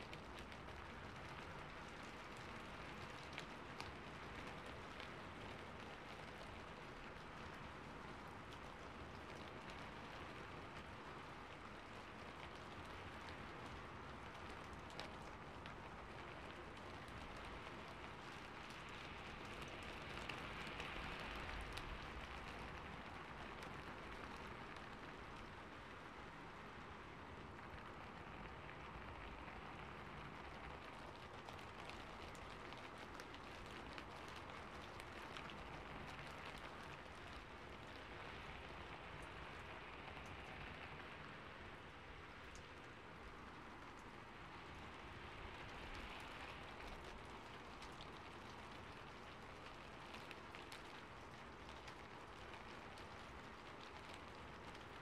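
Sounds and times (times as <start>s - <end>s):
soft rain patter: 0.0s - 55.0s.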